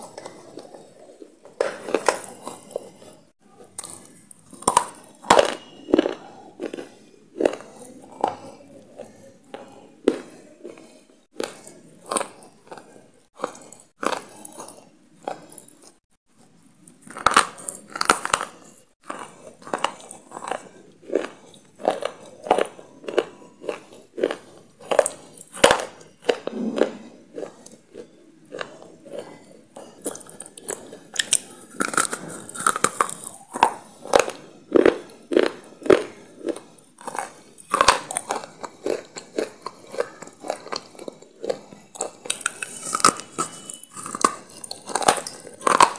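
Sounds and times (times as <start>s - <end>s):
crunchy food chewing: 0.0s - 45.9s.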